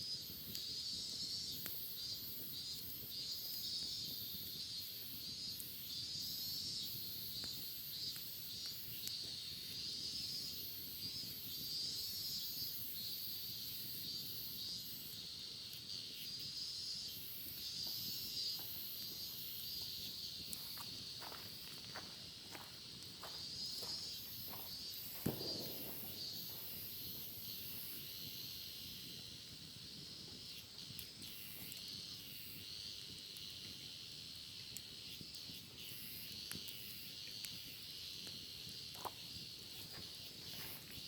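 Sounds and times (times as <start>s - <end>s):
cicadas singing: 0.0s - 41.0s
pulsing insect trill: 0.0s - 41.0s.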